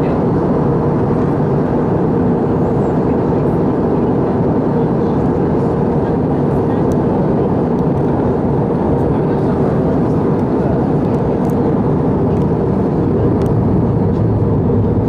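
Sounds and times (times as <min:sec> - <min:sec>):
airplane cabin engine noise: 0:00.0 - 0:15.0.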